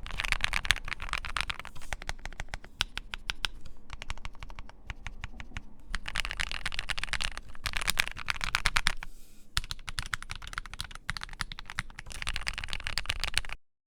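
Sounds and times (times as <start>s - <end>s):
fast mechanical keyboard typing: 0.0s - 13.6s.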